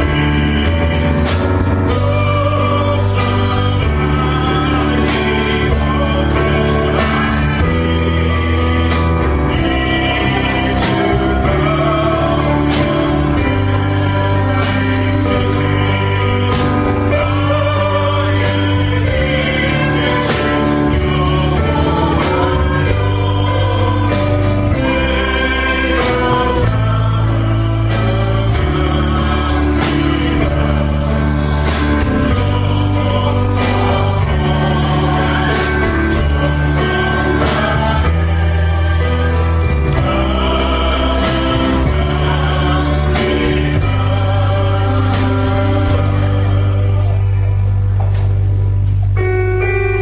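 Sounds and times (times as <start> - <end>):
choir singing worship song: 0.0 - 48.6
steady drum beat: 0.0 - 48.8
sustained bass notes: 0.0 - 50.0.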